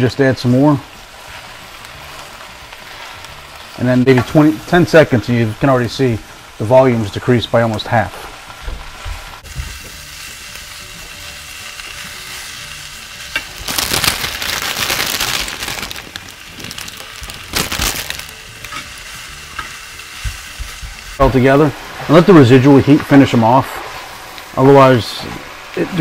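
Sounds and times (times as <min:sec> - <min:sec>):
spinach sizzling in a pan: 0:00.0 - 0:26.0.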